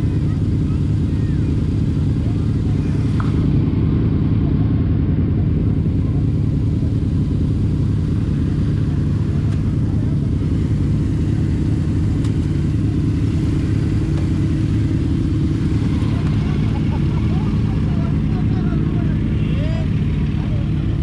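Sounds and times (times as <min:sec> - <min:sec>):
car engine rumble: 0:00.0 - 0:21.0
road noise: 0:00.0 - 0:21.0.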